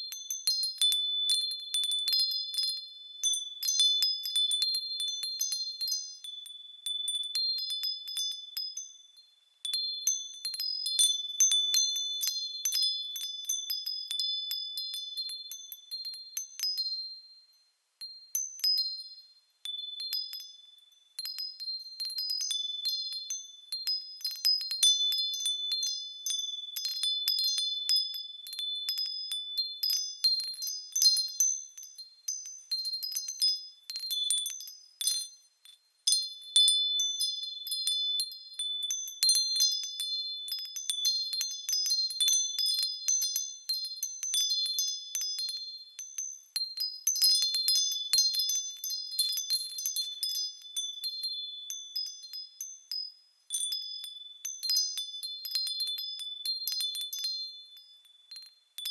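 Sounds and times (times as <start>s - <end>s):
small bells ringing: 0.0s - 58.9s.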